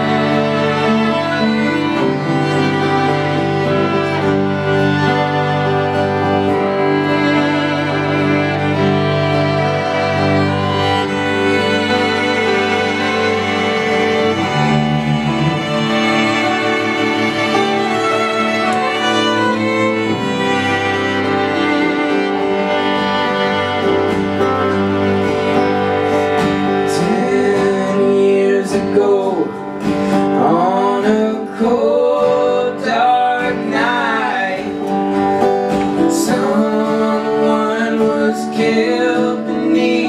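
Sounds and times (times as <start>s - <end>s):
fiddle: 0.0s - 40.0s
guitar: 0.0s - 40.0s
live country band: 0.0s - 40.0s.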